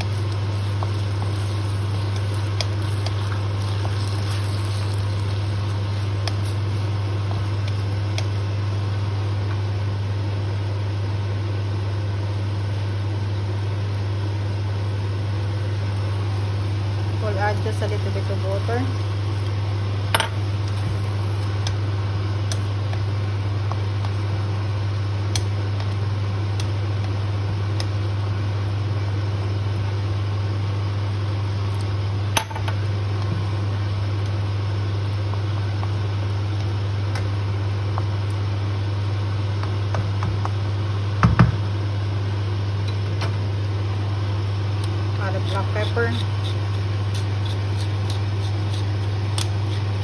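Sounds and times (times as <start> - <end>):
low mechanical hum with hiss: 0.0 - 50.0.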